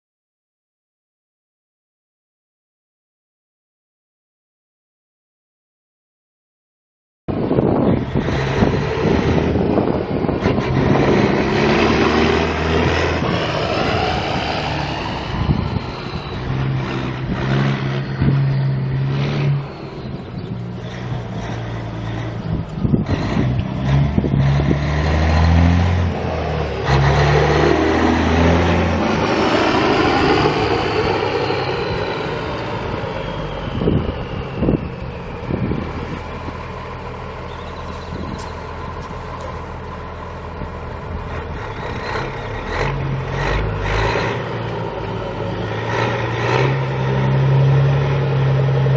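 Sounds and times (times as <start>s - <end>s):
diesel truck engine revving: 7.3s - 48.9s.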